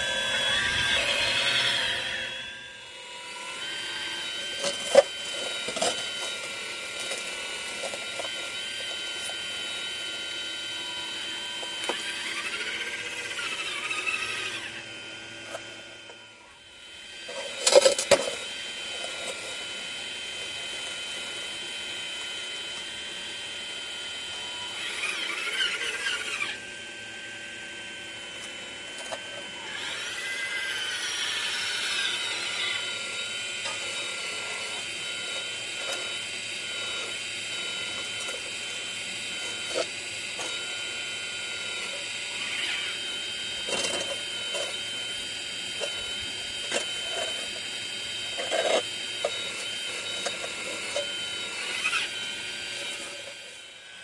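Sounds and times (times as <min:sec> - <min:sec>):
toy excavator motors whining: 0:00.0 - 0:54.0.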